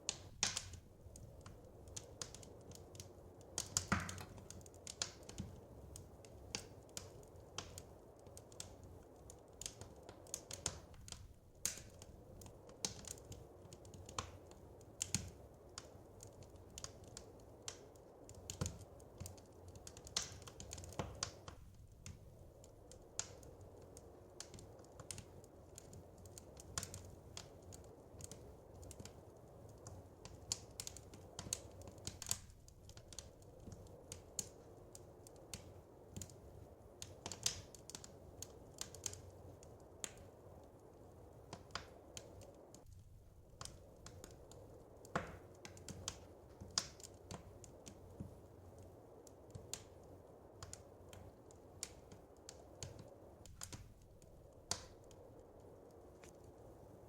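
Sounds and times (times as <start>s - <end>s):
fireplace snapping and popping: 0.0s - 57.0s.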